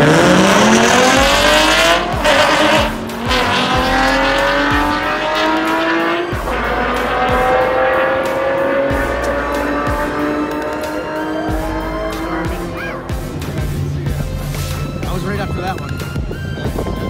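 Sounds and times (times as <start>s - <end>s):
racing car engines at full throttle: 0.0s - 17.0s.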